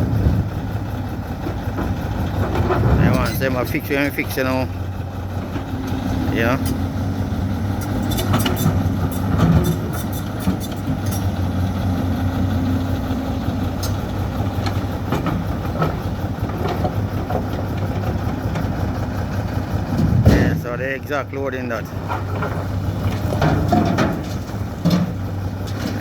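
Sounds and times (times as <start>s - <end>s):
heavy engine idling: 0.0s - 26.0s.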